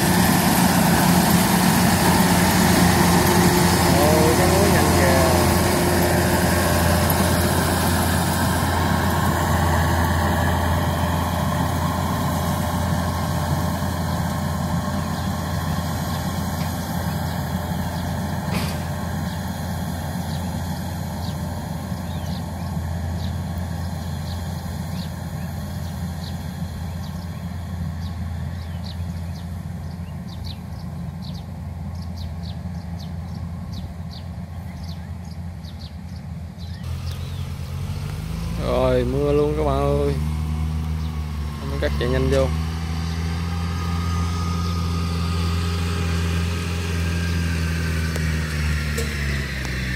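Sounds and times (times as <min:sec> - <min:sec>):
combine harvester engine hum: 0:00.0 - 0:49.9.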